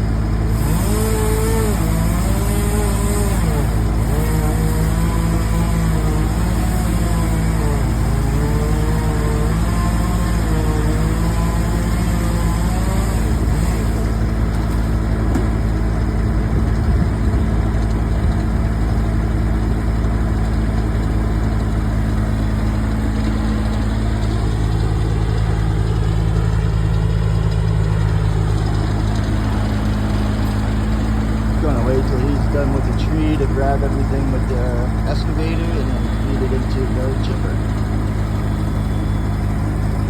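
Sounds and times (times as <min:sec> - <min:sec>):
heavy engine idling: 0:00.0 - 0:40.0.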